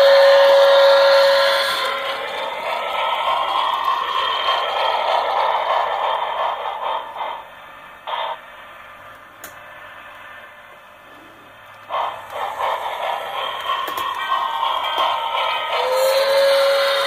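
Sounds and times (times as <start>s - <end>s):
steam rushing from small speaker: 0.0s - 17.0s.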